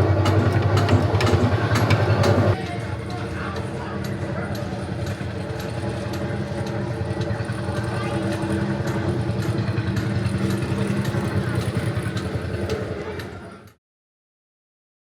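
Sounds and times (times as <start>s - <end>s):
tractor ride engine hum: 0.0s - 13.8s.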